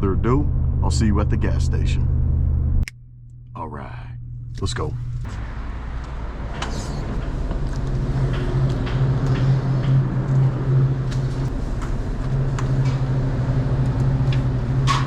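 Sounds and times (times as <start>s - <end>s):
truck engine hum: 0.0s - 15.0s.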